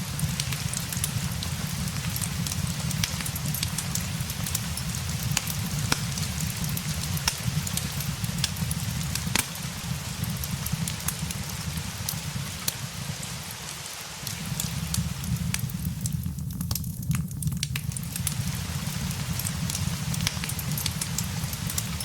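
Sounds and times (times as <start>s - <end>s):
fireplace crackling: 0.0s - 22.0s
steady rain: 0.0s - 22.0s.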